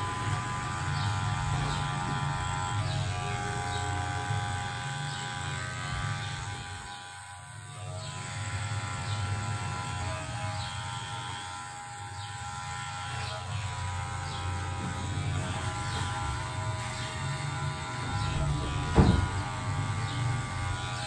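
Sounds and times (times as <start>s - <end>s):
electric hair clipper humming: 0.0s - 21.0s.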